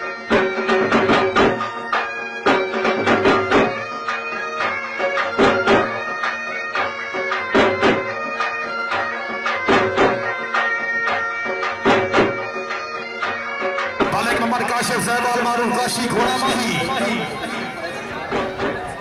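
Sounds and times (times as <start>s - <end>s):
bagpipes playing over a drone: 0.0s - 19.0s
drum beating: 0.0s - 19.0s.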